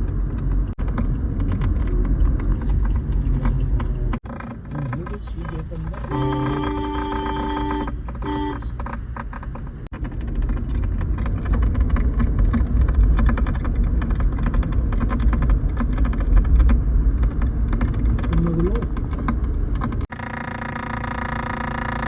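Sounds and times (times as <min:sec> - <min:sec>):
engine clattering rattle: 0:00.0 - 0:22.0
low engine rumble: 0:00.0 - 0:22.0.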